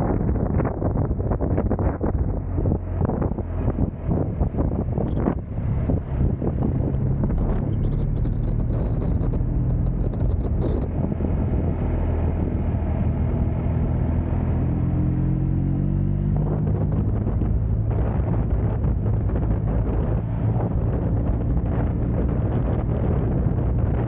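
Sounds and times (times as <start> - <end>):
motorcycle engine accelerating: 0.0 - 24.0
wind rushing over microphone: 0.0 - 24.0.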